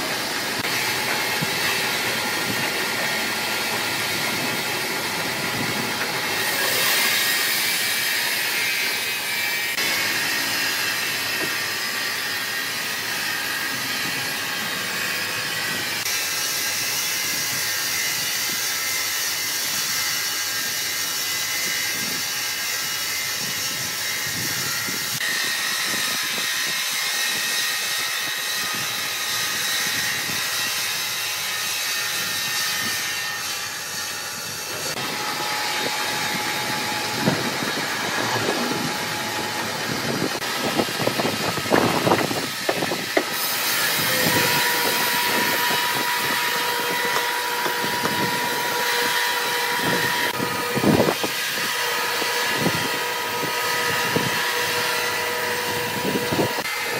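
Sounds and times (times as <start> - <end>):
band saw whining through log: 0.0 - 56.9.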